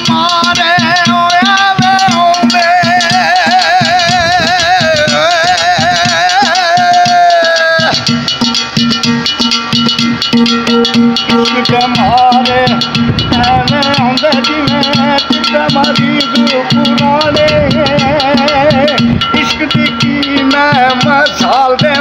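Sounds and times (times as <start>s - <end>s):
hand drumming on metal pot: 0.0s - 22.0s
man singing with vibrato: 0.0s - 22.0s.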